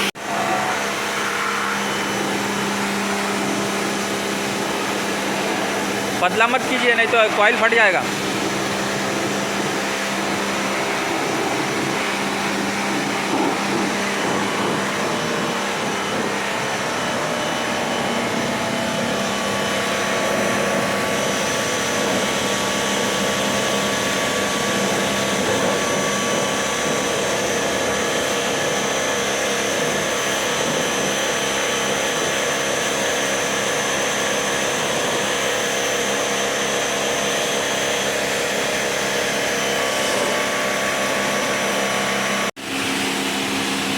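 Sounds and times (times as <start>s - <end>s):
pressure washer pump running: 0.0s - 43.9s
water jet spraying coil: 0.0s - 43.9s.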